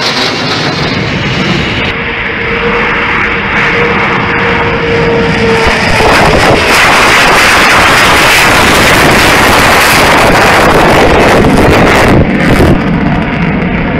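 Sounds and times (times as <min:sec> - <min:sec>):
jet engines roaring: 0:00.0 - 0:13.9.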